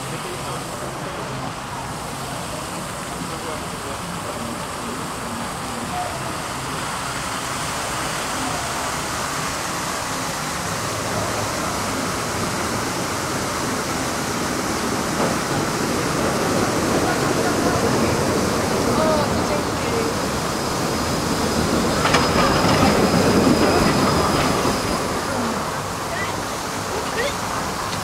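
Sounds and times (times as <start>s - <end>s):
city traffic noise: 0.0s - 28.0s
faint voices: 0.0s - 28.0s.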